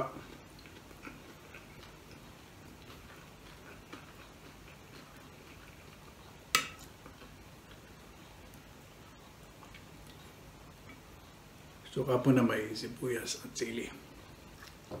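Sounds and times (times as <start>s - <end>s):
man chewing food: 0.0s - 11.8s, 14.0s - 15.0s.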